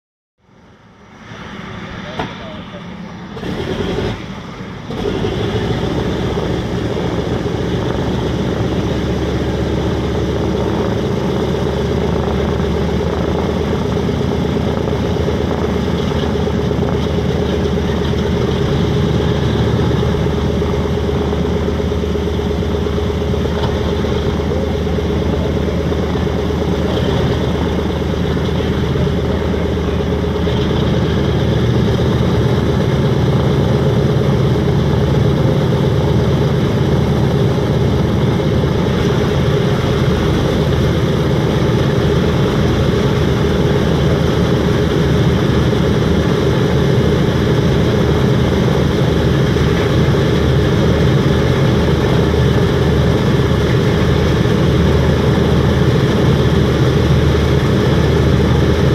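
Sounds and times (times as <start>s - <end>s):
radial engines running: 0.7s - 58.9s.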